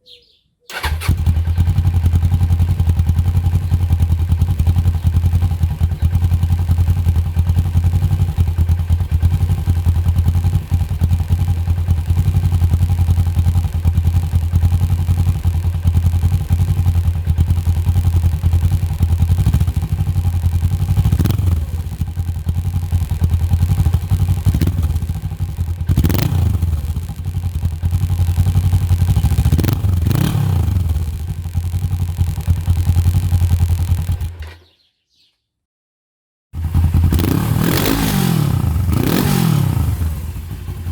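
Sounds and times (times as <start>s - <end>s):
engine revving: 0.7s - 34.3s, 36.6s - 40.9s
motorcycle engine idling: 0.7s - 34.4s, 36.6s - 40.9s.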